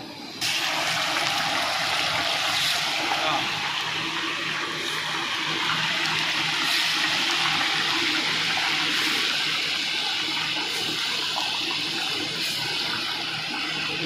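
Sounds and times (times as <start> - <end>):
chicken sizzling in hot oil: 0.4 - 14.0.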